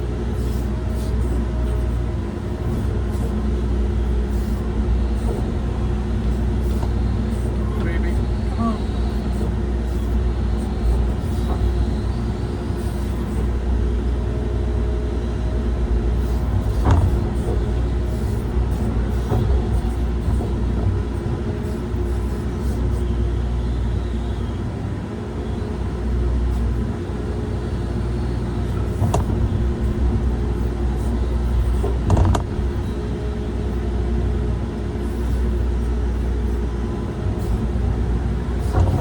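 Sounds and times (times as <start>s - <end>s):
heavy machine engine running: 0.0s - 39.0s.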